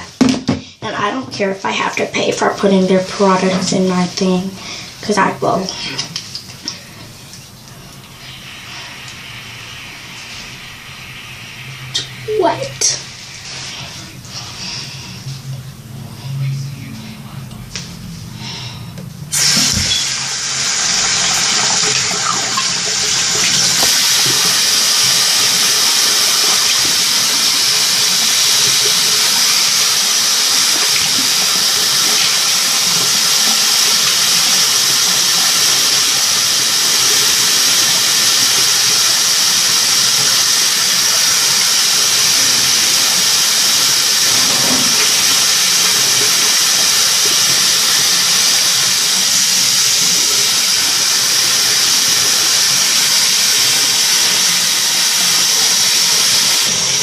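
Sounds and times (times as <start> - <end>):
water running from a tap: 0.0 - 16.4, 19.3 - 57.0.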